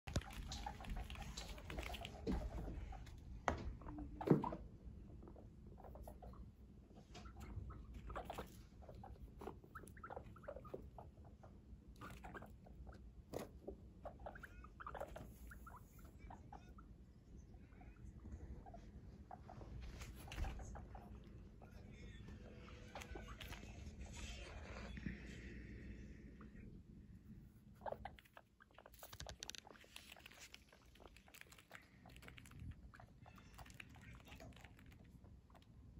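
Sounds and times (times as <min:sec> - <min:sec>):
guinea pigs squeaking: 0:00.0 - 0:35.9.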